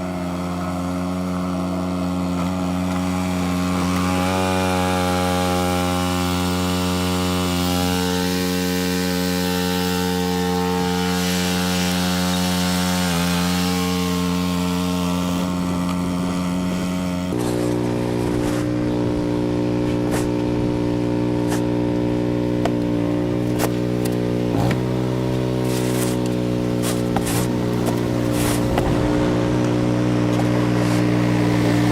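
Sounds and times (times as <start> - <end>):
snow blower engine running: 0.0 - 31.9.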